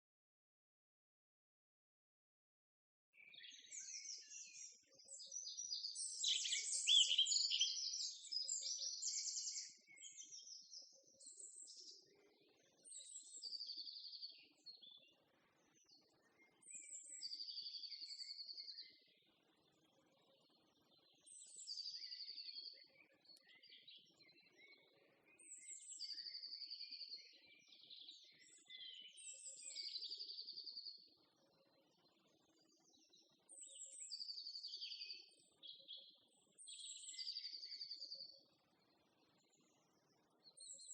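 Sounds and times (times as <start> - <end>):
songbirds singing: 3.2 - 40.9.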